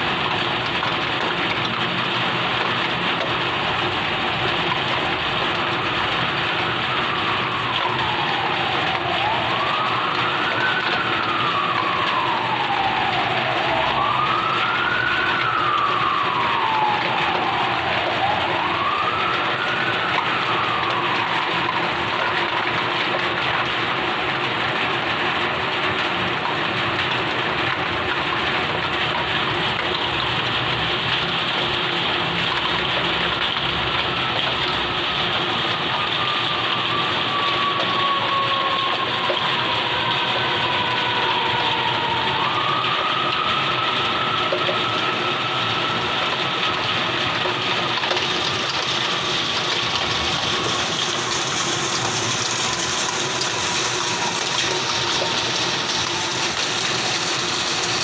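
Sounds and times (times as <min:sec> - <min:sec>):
running water: 0:00.0 - 0:22.6, 0:27.1 - 0:58.0
heavy rain: 0:00.0 - 0:58.0
siren wailing: 0:00.0 - 0:58.0.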